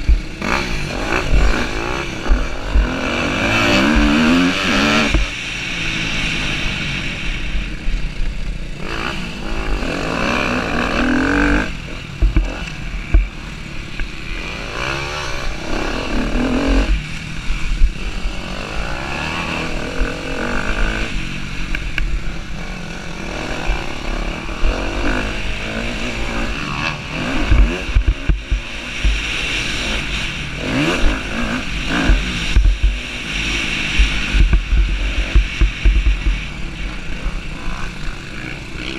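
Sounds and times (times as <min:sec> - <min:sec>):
wind on microphone: 0:00.0 - 0:13.8, 0:15.3 - 0:38.7
motocross bike engine revving: 0:00.0 - 0:38.9.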